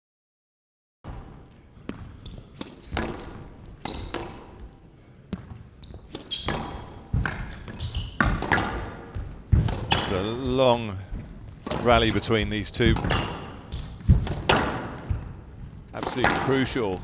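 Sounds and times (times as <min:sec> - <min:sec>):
squash ball hitting rackets: 0:01.1 - 0:17.0
squash ball smacking walls: 0:01.1 - 0:17.0.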